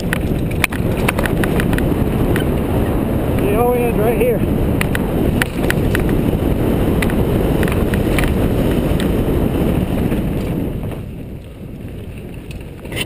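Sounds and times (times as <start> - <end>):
bike rattling clicks: 0.0 - 3.4, 4.6 - 13.0
bike tyres rumbling on dirt: 0.0 - 13.0
wind buffeting microphone: 0.0 - 13.0.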